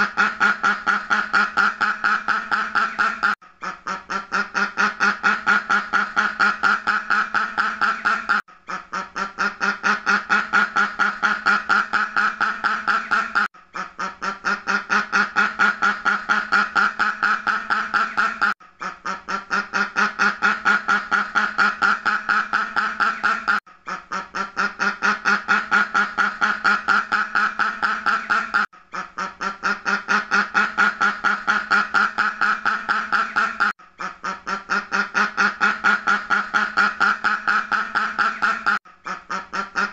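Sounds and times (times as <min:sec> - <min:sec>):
duck quacking rapidly: 0:00.0 - 0:39.9.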